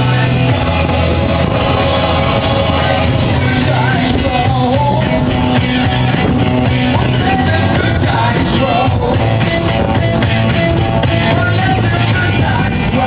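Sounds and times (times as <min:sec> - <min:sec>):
rock song with vocal: 0:00.0 - 0:13.0
steady bass line: 0:00.0 - 0:13.0.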